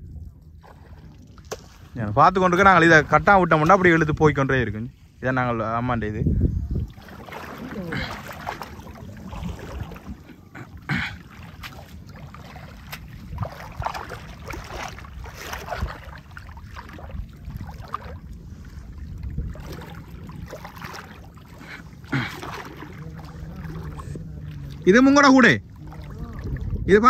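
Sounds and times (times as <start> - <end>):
low wind rumble: 0.0 - 27.0
seawater splashing and sloshing: 0.0 - 27.0.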